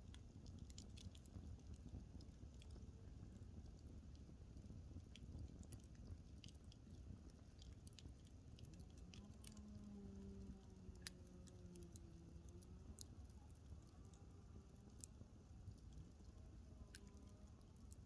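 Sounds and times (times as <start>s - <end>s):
fire crackling and popping: 0.0s - 18.0s
low fire rumble: 0.0s - 18.0s.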